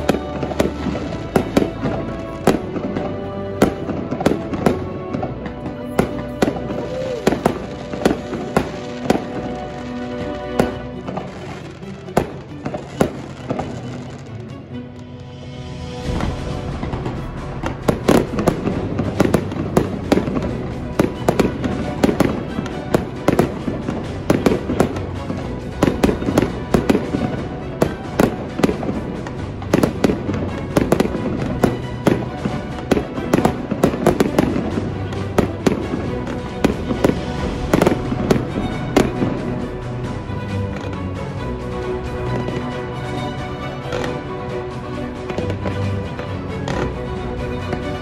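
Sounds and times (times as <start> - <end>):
background music: 0.0 - 48.0
fireworks bursting: 0.0 - 48.0.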